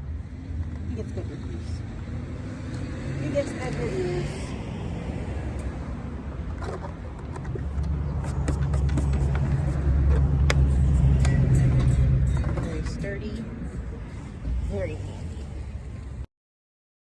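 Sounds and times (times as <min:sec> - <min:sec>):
vehicle engine rumbling: 0:00.0 - 0:16.3.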